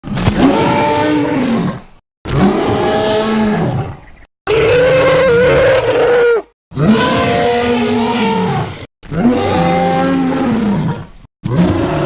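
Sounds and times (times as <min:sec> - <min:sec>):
dinosaur roars: 0:00.4 - 0:12.0.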